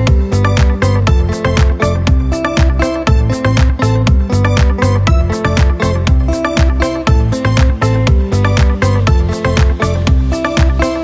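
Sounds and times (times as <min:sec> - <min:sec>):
dance music with pulsing bass: 0:00.0 - 0:11.0.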